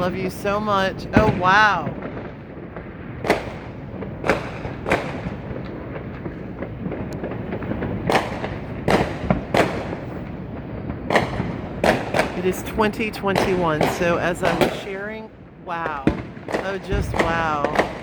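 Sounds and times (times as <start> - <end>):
distant popping and rumbling: 0.0 - 18.0
sharp firework bangs: 1.0 - 18.0.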